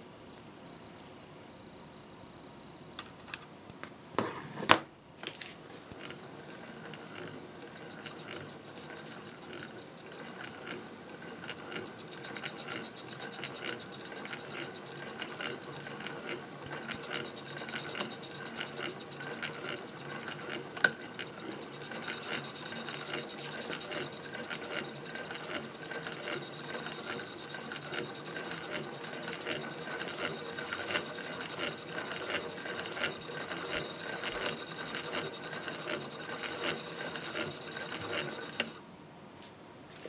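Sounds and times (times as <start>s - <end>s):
sewing machine ticking: 6.0s - 38.8s.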